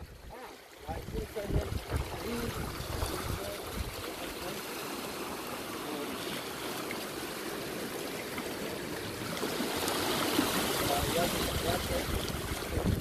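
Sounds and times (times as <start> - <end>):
seawater washing over rocks: 0.2 - 13.0.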